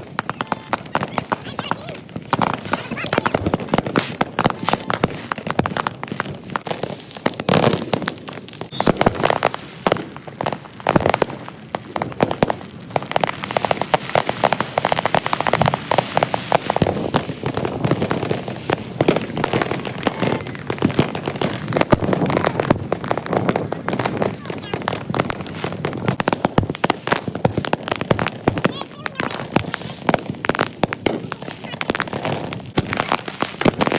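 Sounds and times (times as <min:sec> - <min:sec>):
fireworks and firecrackers banging: 0:00.0 - 0:33.9.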